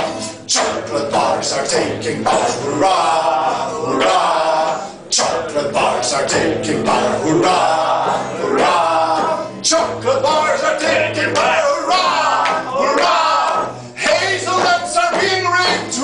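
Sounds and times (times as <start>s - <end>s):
man chanting wordlessly: 0.0s - 16.0s.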